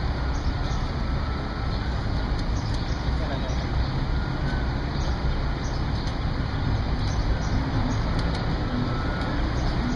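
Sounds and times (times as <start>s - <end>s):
city street traffic: 0.0s - 9.9s.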